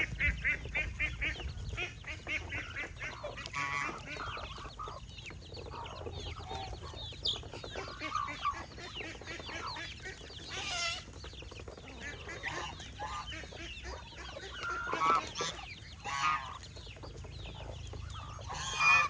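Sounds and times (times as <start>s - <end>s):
poultry peeping and clucking: 0.0s - 19.0s.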